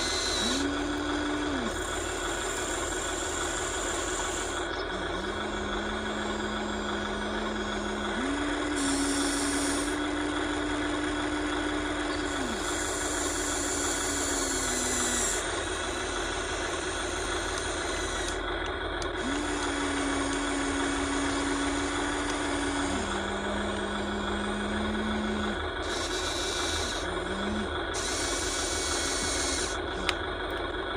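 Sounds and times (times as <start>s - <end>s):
toy electric motors whining: 0.0s - 30.7s.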